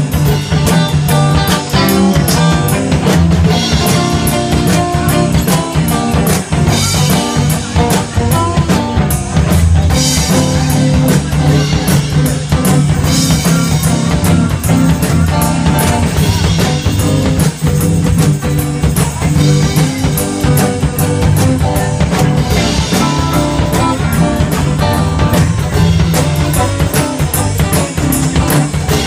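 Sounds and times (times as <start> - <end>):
bass: 0.0 - 29.0
electric guitar: 0.0 - 29.0
percussion beat: 0.0 - 29.0.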